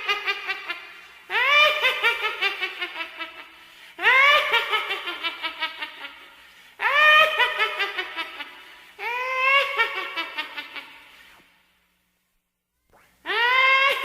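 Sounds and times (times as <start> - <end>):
witch cackling laughter: 0.0 - 11.2, 13.3 - 14.0.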